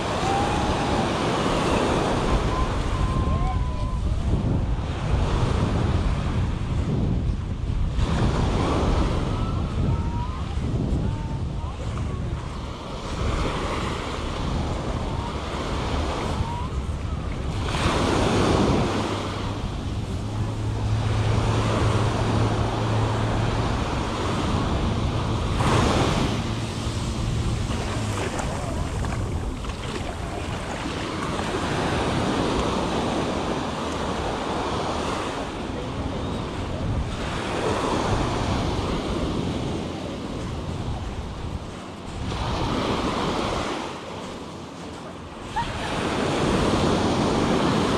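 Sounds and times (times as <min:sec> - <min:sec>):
surf washing up sand: 0:00.0 - 0:47.9
wind buffeting microphone: 0:00.0 - 0:47.9.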